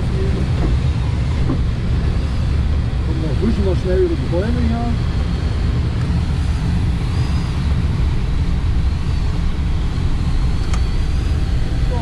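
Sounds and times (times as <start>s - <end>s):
airflow rushing around glider cockpit: 0.0s - 12.0s.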